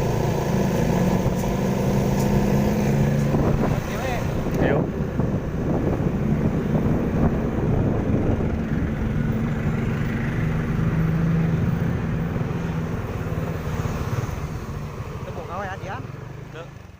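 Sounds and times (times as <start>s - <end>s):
vehicle engines humming in traffic: 0.0s - 16.9s.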